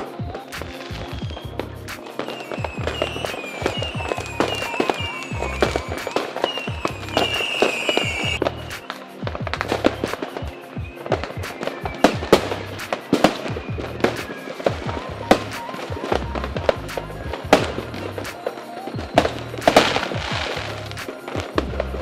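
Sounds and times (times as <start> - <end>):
firework shells bursting: 0.0 - 22.0
music with steady bass line: 0.0 - 22.0.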